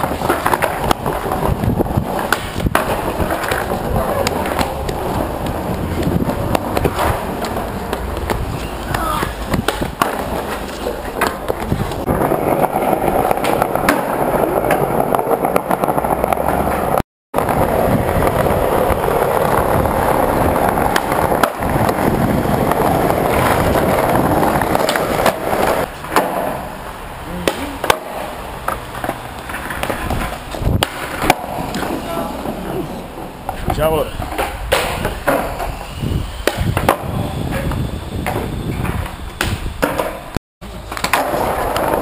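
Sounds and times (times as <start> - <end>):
skateboard clacks: 0.0 - 35.8, 36.4 - 42.0
skateboard wheels rolling: 0.0 - 42.0.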